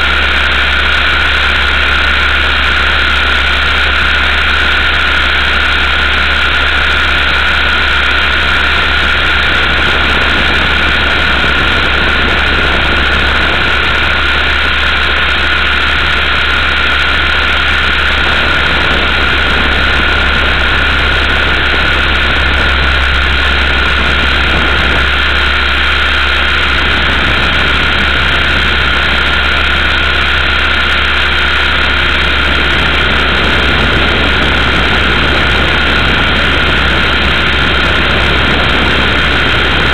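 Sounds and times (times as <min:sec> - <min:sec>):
rc helicopter motor whine: 0:00.0 - 0:39.9
rotor and wind rush: 0:00.0 - 0:39.9.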